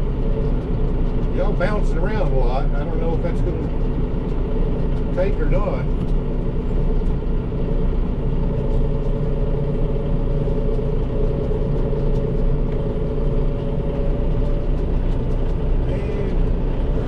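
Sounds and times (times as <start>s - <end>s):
faint clicks and rattles: 0.0s - 17.0s
tractor diesel engine running: 0.0s - 17.0s.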